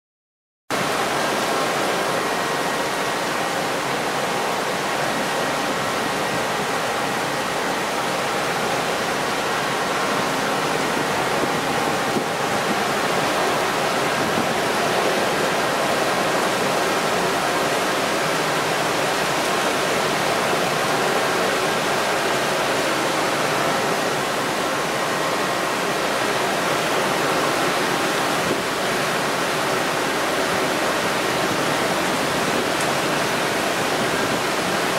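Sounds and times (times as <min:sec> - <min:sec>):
heavy rain rushing hiss: 0:00.8 - 0:34.9.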